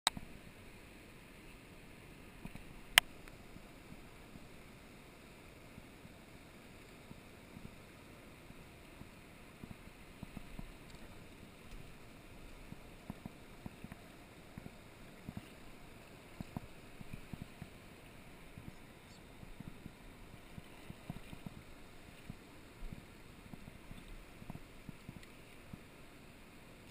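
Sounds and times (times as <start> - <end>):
river water over rocks: 0.1 - 26.9.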